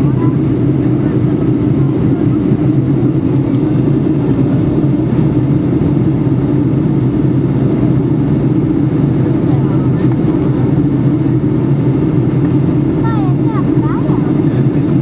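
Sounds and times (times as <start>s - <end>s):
jet engine drone in cabin: 0.0s - 15.0s.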